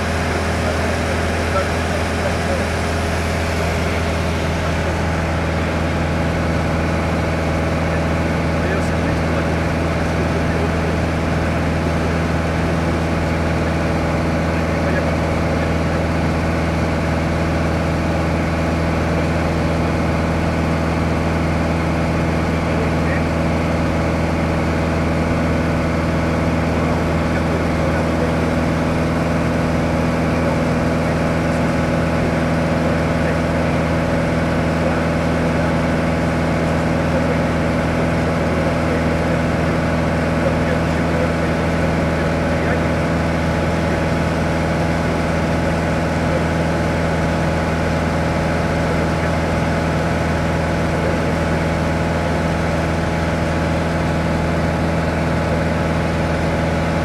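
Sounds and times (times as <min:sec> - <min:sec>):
aircraft engine droning: 0:00.0 - 0:57.0.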